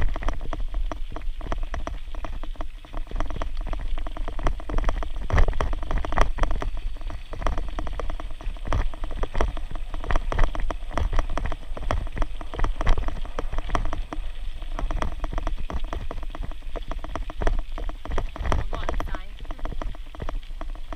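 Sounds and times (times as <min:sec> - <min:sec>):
bicycle rattling over rough path: 0:00.0 - 0:20.9
low rumble: 0:00.0 - 0:20.9.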